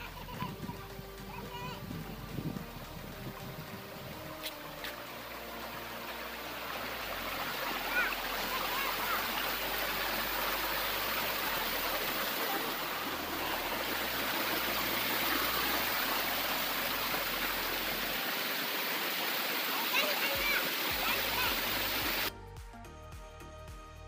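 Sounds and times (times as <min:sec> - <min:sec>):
river rushing over rocks: 0:02.6 - 0:22.3.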